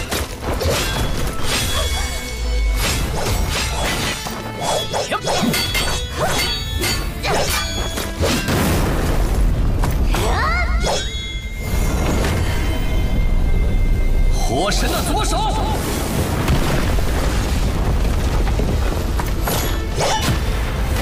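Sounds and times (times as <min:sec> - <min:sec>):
dramatic background music: 0:00.0 - 0:21.0.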